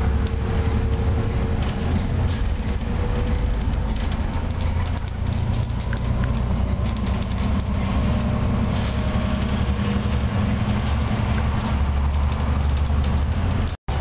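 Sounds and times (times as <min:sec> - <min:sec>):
bus body rattling: 0:00.0 - 0:14.0
diesel bus engine drone: 0:00.0 - 0:14.0
road noise: 0:00.0 - 0:14.0.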